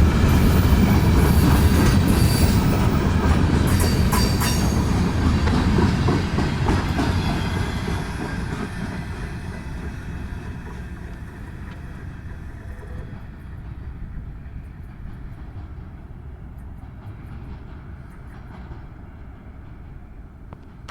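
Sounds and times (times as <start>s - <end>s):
train wheels clacking on rails: 0.0s - 20.9s.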